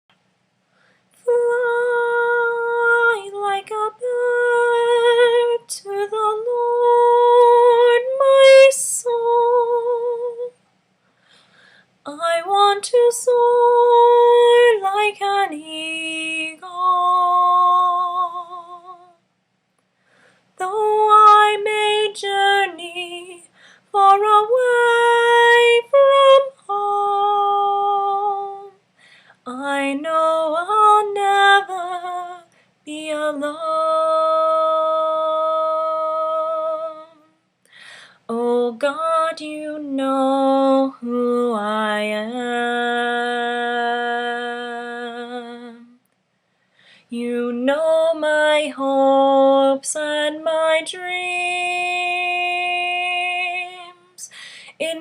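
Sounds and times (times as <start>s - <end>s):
woman singing unaccompanied: 1.2s - 10.6s, 12.0s - 19.2s, 20.6s - 28.8s, 29.4s - 37.4s, 38.2s - 46.0s, 47.1s - 55.0s.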